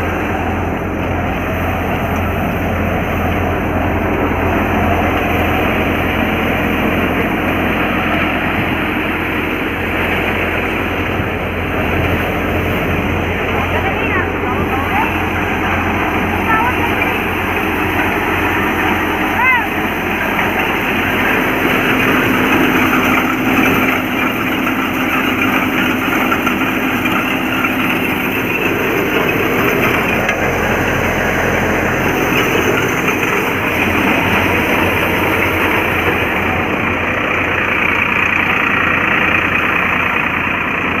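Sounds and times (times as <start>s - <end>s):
tractor engine running: 0.0s - 41.0s
wheat thresher running: 0.0s - 41.0s.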